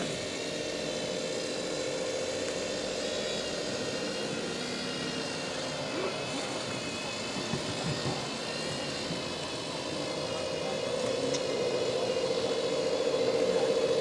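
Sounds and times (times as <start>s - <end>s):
small motor whining: 0.0s - 14.0s.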